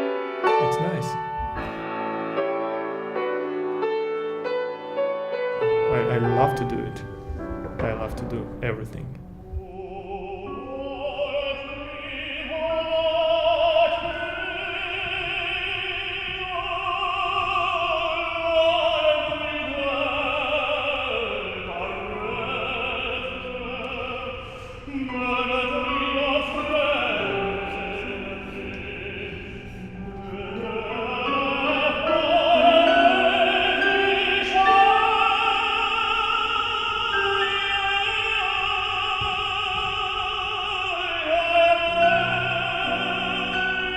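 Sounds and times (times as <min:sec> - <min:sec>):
operatic singing with vibrato: 0:05.6 - 0:43.9.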